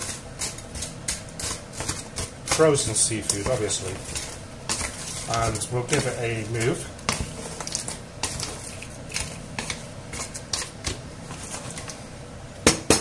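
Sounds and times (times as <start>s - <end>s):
spatula knocking pan: 0.0s - 12.0s
frozen food clicking in pan: 0.1s - 12.0s.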